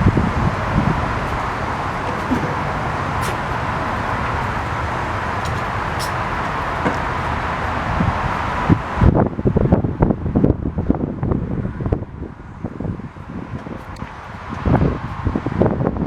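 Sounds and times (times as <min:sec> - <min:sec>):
distant traffic: 0:00.0 - 0:15.7
wind: 0:00.0 - 0:16.0.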